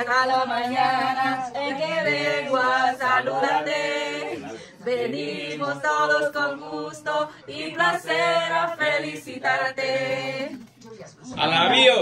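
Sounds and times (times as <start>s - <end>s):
group singing unaccompanied: 0.0s - 10.8s.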